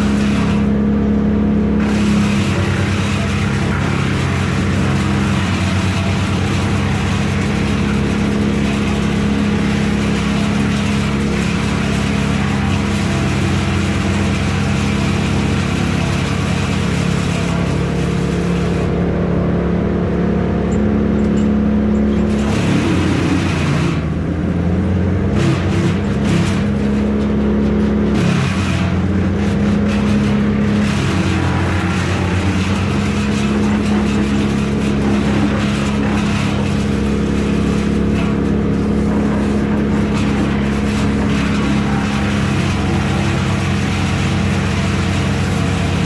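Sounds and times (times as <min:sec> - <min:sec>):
heavy engine running: 0:00.0 - 0:46.0.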